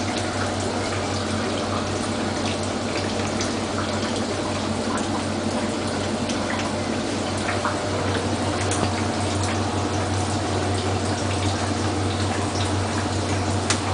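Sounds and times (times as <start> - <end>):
washing machine low hum: 0.0 - 13.9
water sloshing in washing machine: 0.0 - 13.9.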